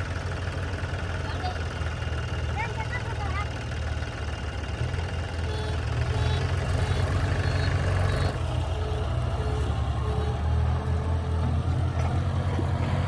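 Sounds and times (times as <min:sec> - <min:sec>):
tractor diesel engine rumbling: 0:00.0 - 0:13.0.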